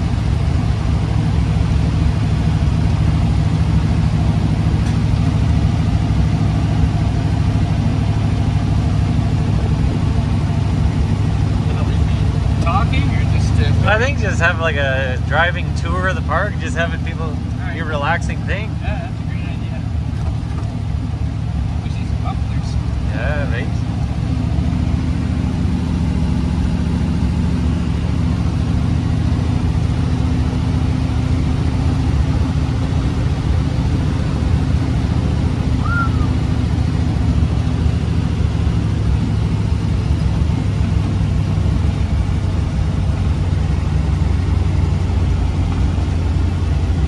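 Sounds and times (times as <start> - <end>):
car engine cruising: 0.0 - 47.0
road noise: 0.0 - 47.0.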